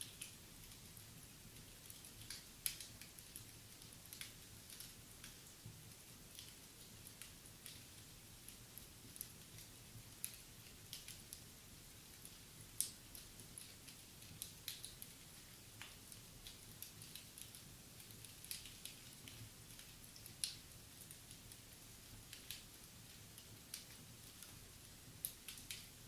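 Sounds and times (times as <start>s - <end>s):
low hiss: 0.0s - 26.0s
wood fire crackling: 0.0s - 26.0s.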